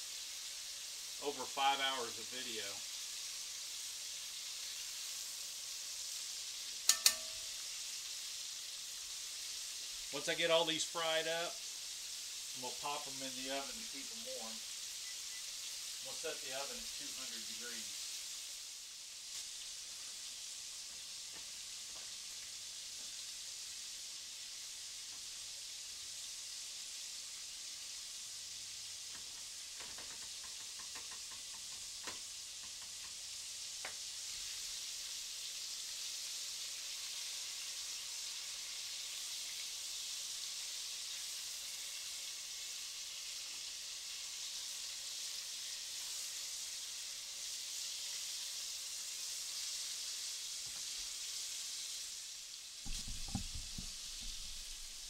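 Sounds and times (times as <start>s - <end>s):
chicken deep-frying in oil: 0.0s - 55.0s.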